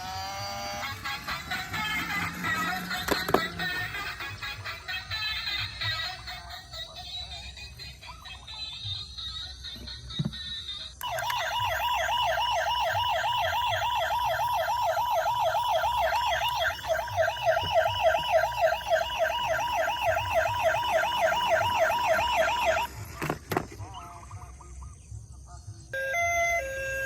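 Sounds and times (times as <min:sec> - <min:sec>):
toy siren warbling: 0:00.0 - 0:23.4, 0:26.0 - 0:27.0.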